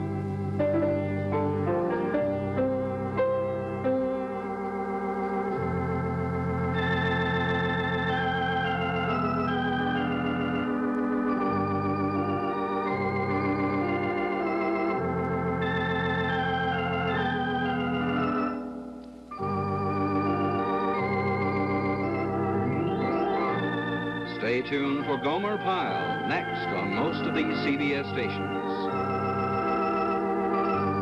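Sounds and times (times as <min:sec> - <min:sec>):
organ chords with vibrato: 0:00.0 - 0:31.0.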